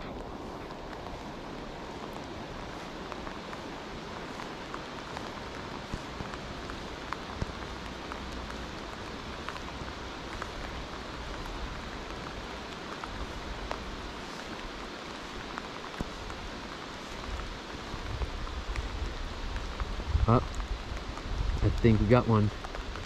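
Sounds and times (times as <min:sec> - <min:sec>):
rain falling on water: 0:00.0 - 0:23.0.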